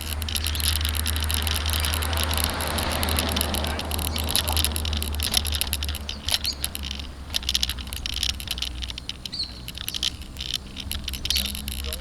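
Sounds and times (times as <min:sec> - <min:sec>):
camera mount rattling: 0:00.0 - 0:12.0
wind rumble on microphone: 0:00.0 - 0:12.0.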